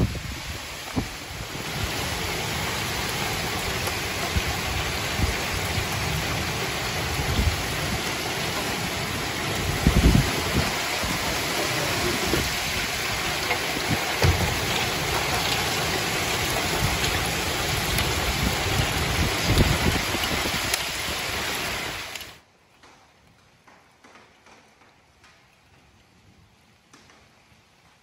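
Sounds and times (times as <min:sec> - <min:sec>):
heavy wind-driven rain: 0:00.0 - 0:22.4.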